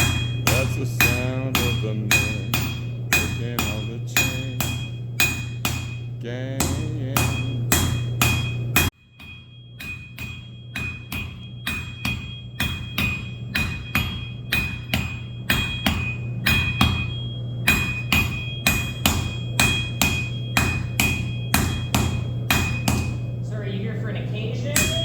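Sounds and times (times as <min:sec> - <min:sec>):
hammer striking metal on anvil: 0:00.0 - 0:23.4, 0:24.7 - 0:25.0
steady low hum: 0:00.0 - 0:25.0.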